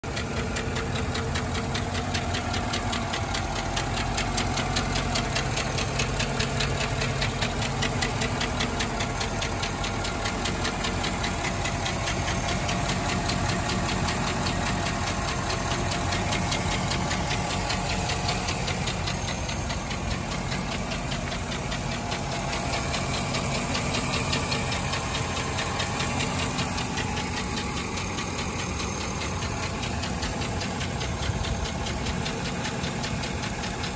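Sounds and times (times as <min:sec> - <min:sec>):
fast engine ticking: 0:00.0 - 0:33.9
truck engine idling: 0:00.0 - 0:33.9.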